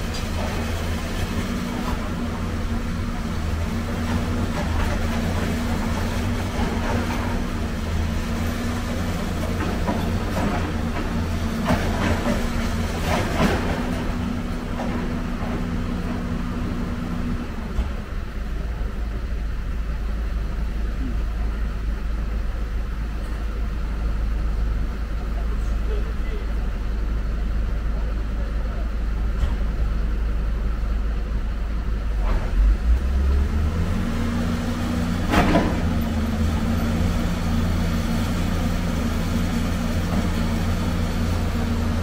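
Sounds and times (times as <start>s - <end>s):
heavy diesel machinery running: 0.0s - 42.0s.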